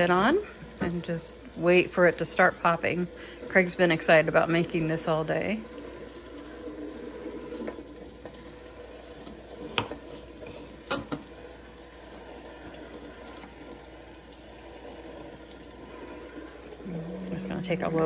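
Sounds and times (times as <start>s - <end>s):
oil sizzling in popcorn popper: 0.0s - 18.0s.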